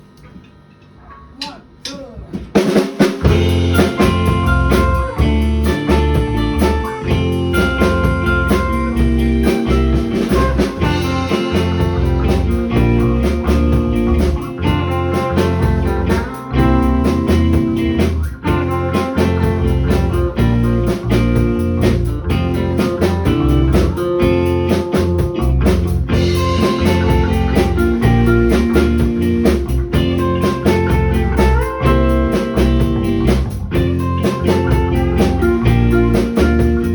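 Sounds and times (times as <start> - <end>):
drum kit hits: 1.4 - 36.9
electric guitar: 2.4 - 36.9.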